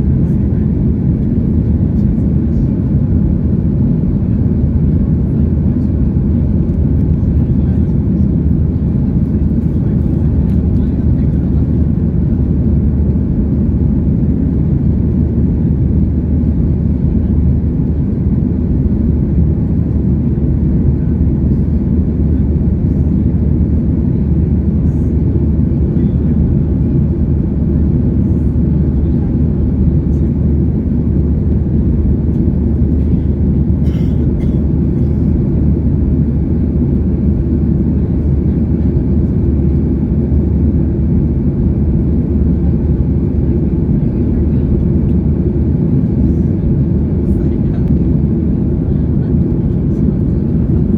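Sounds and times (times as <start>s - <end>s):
jet engine drone in cabin: 0.0s - 50.9s.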